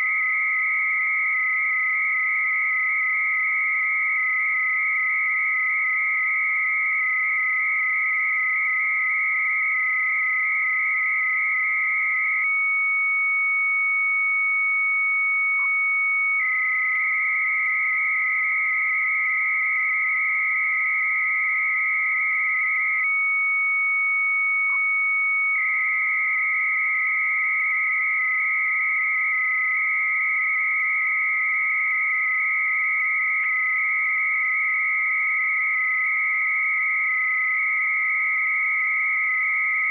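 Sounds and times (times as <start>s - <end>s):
steady low modem tone: 0.0s - 39.9s.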